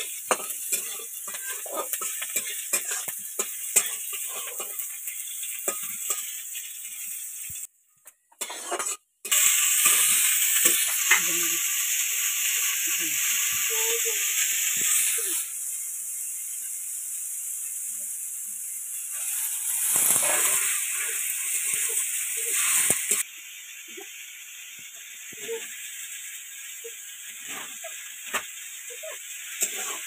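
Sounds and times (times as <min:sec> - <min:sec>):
frying sizzle: 0:00.0 - 0:30.0.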